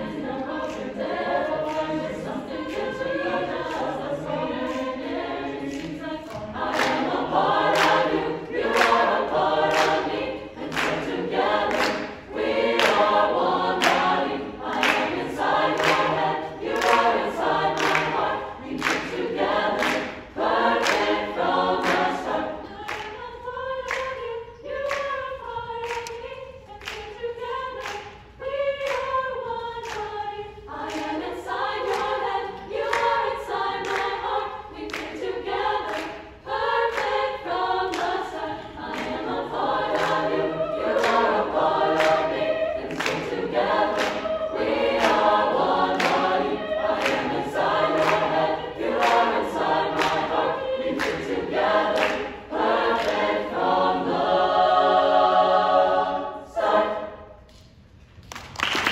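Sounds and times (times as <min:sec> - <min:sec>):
choir singing in harmony: 0:00.0 - 0:57.8
rhythmic hand clapping: 0:00.0 - 0:58.9.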